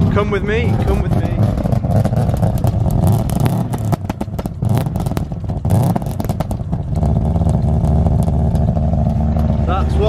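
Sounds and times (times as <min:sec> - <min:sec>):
car engine idling with pops: 0:00.0 - 0:10.0.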